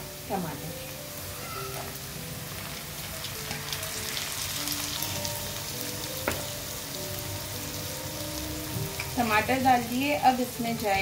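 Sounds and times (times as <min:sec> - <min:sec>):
tomatoes and onions sizzling in oil: 0:00.0 - 0:11.0.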